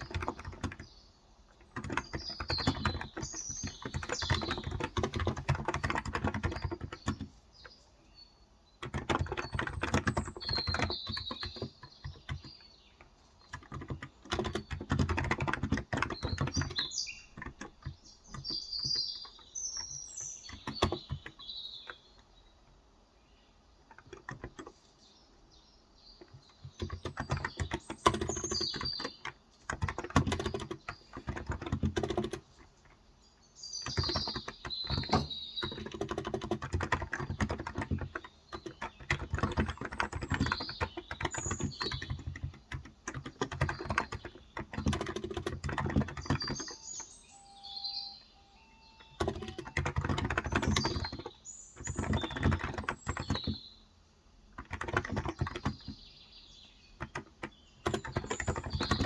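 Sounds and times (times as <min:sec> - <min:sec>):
fast typing on keyboard: 0:00.0 - 0:07.8, 0:08.7 - 0:22.2, 0:23.8 - 0:24.9, 0:26.2 - 0:33.0, 0:33.7 - 0:47.4, 0:48.7 - 0:53.7, 0:54.5 - 0:56.1, 0:56.9 - 0:59.0
birds chirping: 0:00.0 - 0:59.0.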